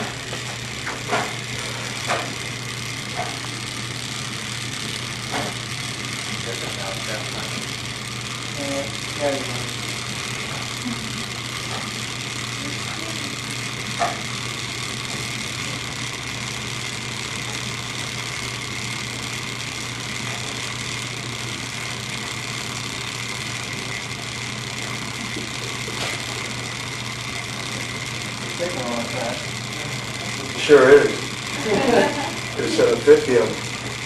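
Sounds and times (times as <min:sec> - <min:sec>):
background hum and hiss: 0:00.0 - 0:34.0.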